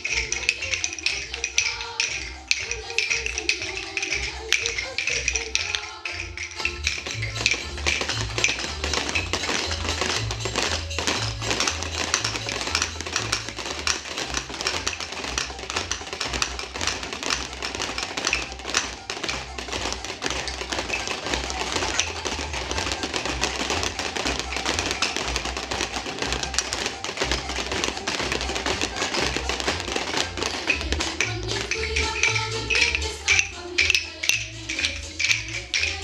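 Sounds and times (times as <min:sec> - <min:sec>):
child striking percussion instrument: 0:00.0 - 0:36.0.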